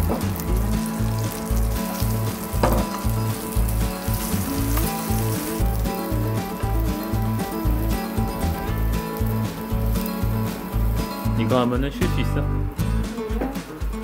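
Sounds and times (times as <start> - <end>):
meat sizzling in oil: 0.0 - 11.8
background music beat: 0.0 - 14.0.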